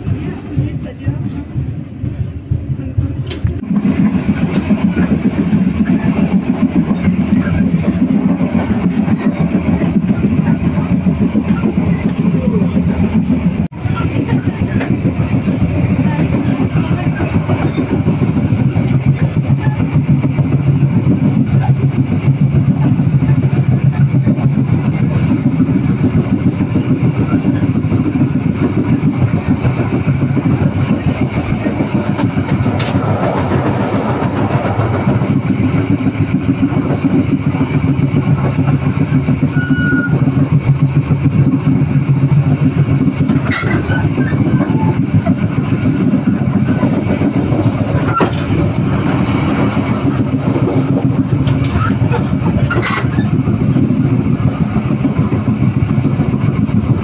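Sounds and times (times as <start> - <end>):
train running on track: 0.0 - 57.0.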